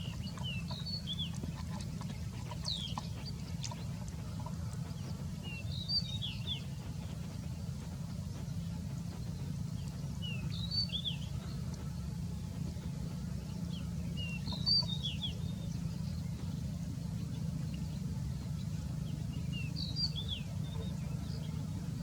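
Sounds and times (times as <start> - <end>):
small bird chirping: 0.0 - 22.0
steady low rumble: 0.0 - 22.0.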